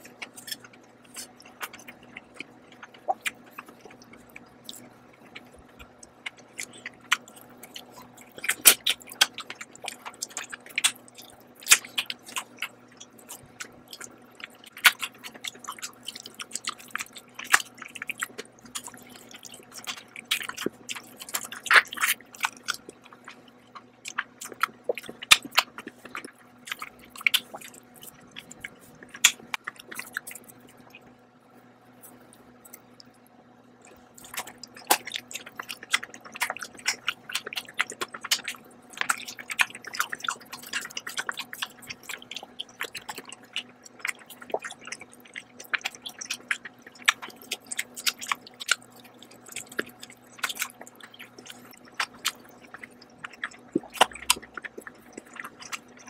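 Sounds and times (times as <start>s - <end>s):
wet chewing mouth smacks: 0.0s - 31.1s, 33.8s - 56.0s.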